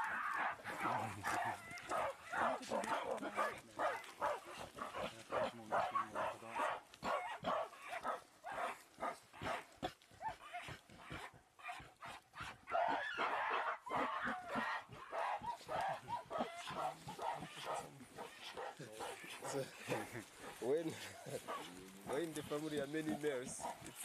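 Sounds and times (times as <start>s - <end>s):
animal barking calls: 0.0s - 24.0s.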